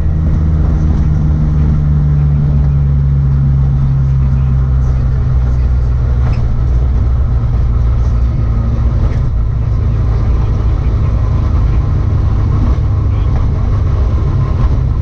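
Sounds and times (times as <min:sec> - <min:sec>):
rally car engine droning: 0:00.0 - 0:15.0
road and tyre noise: 0:00.0 - 0:15.0.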